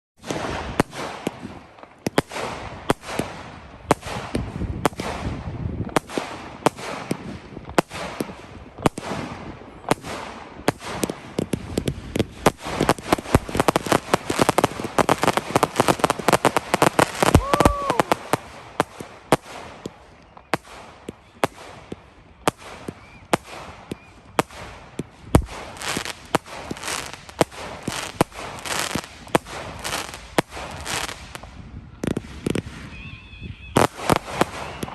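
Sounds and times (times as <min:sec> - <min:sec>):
fireworks bangs and crackling: 0:00.2 - 0:34.9.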